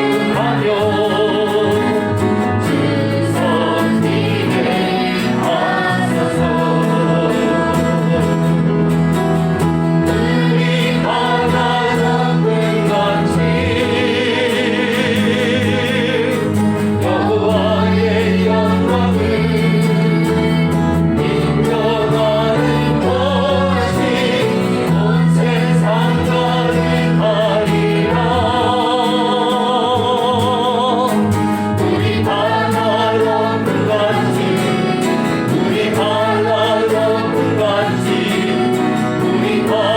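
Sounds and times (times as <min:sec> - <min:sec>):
group singing praise song: 0:00.0 - 0:39.9
instrumental accompaniment: 0:00.0 - 0:39.9.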